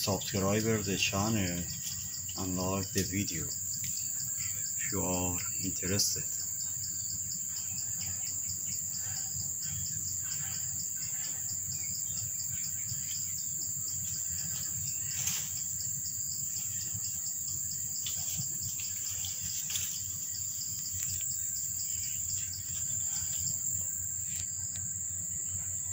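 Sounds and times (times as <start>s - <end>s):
high-pitched insect trilling: 0.0s - 25.9s.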